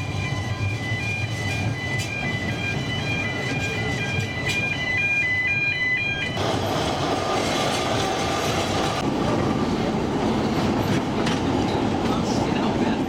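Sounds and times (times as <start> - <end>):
steam train carriage rattling: 0.0 - 13.0.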